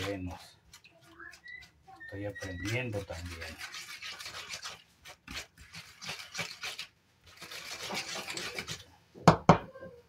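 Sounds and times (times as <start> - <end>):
fork stirring and scraping: 0.0 - 9.0.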